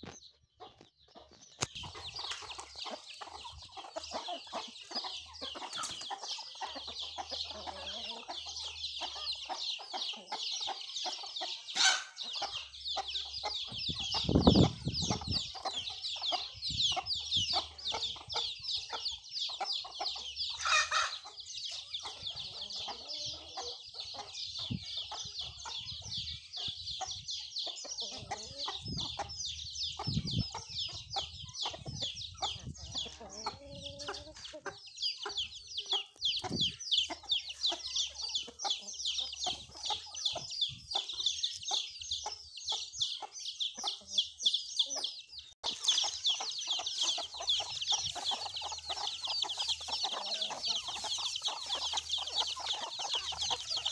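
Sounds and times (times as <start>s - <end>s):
chicks clucking and chirping: 0.0s - 53.9s.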